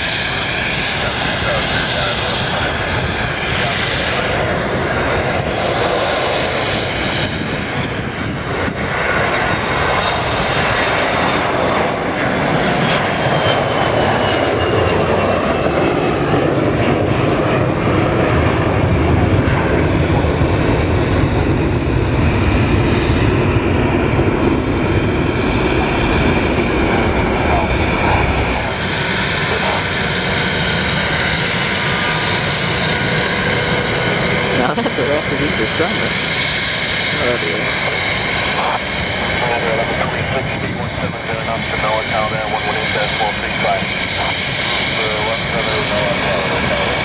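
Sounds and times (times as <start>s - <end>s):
high engine whine: 0.0s - 47.0s
jet airliner passing overhead: 0.0s - 47.0s.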